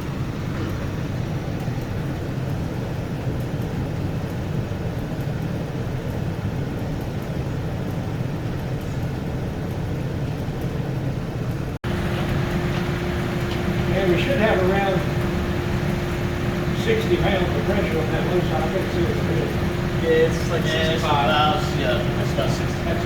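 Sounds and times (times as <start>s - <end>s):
air conditioning machine hum: 0.0s - 23.0s.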